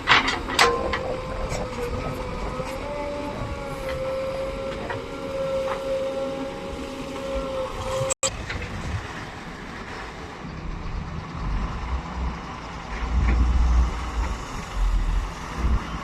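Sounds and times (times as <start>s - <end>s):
diesel engine whining under load: 0.0s - 16.0s.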